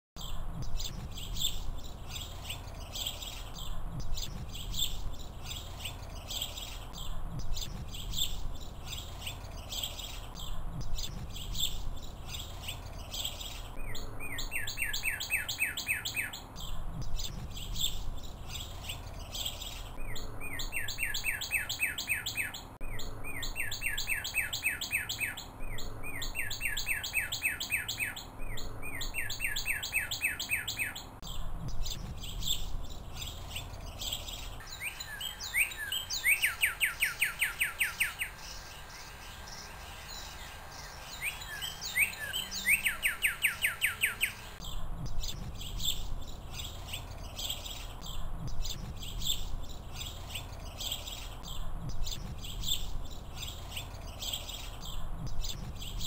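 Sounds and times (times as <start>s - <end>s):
birds singing: 0.2s - 56.0s.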